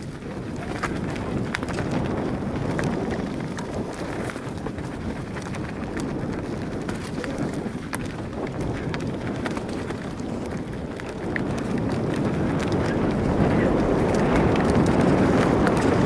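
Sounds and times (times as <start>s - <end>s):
sharp clicks and rattles: 0.0s - 16.0s
tyres rumbling on dirt: 0.0s - 16.0s
wind on microphone: 0.0s - 16.0s.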